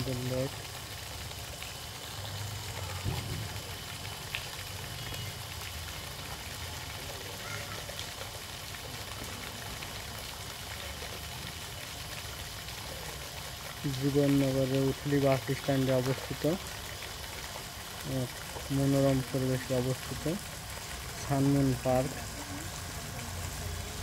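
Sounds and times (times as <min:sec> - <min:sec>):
fountain splashing into pool: 0:00.0 - 0:24.0.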